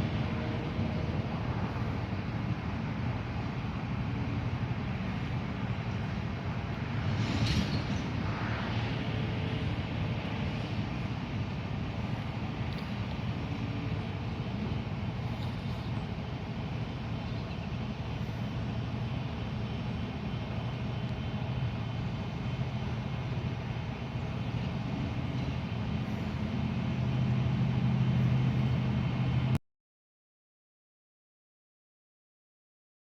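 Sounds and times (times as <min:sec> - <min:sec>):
heavy diesel engine droning: 0:00.0 - 0:29.6.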